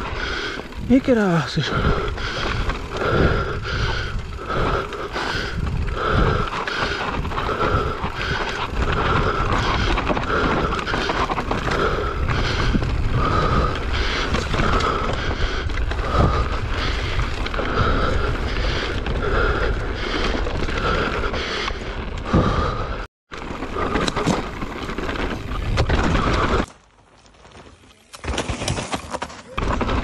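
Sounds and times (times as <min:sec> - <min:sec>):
bike tyres rumbling over dirt: 0:00.0 - 0:30.0.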